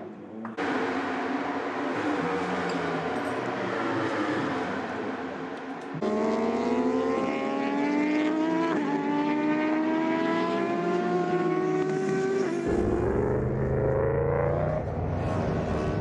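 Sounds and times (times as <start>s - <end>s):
motorcycle engine accelerating: 0.6s - 16.0s.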